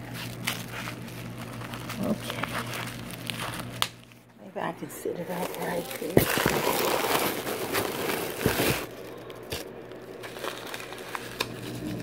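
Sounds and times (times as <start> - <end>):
paper crinkling and rustling: 0.0 - 4.3, 5.1 - 12.0.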